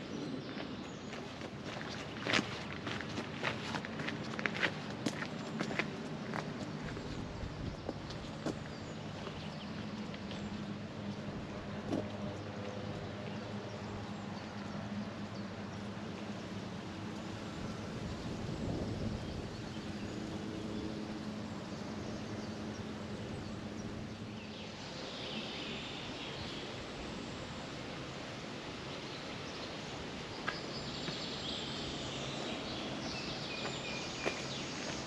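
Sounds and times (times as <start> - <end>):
birds chirping: 0.0 - 27.6, 28.2 - 35.0.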